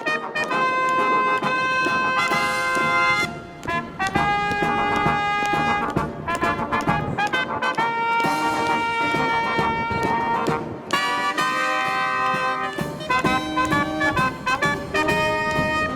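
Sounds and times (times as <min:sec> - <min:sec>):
brass marching band playing: 0:00.0 - 0:15.9.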